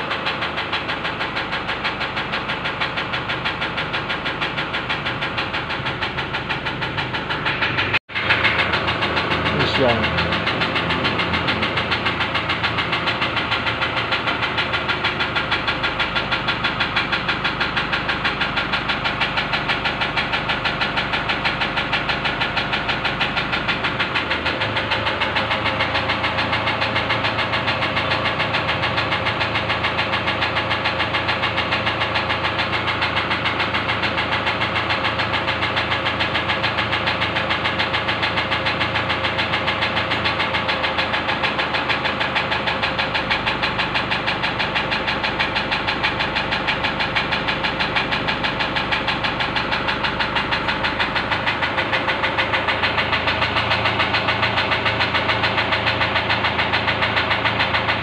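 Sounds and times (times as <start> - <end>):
diesel engine idling with knock: 0.0 - 58.0.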